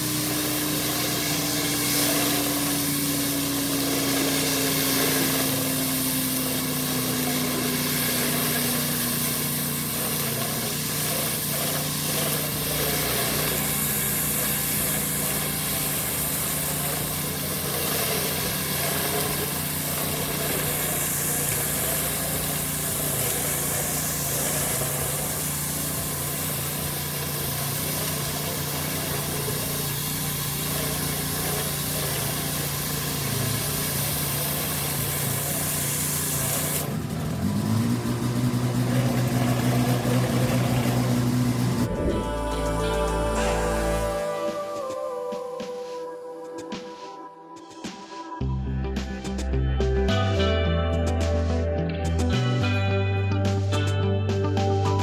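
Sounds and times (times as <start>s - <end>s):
pressure washer engine running: 0.0s - 45.0s
water jet hissing on pavement: 0.0s - 46.0s.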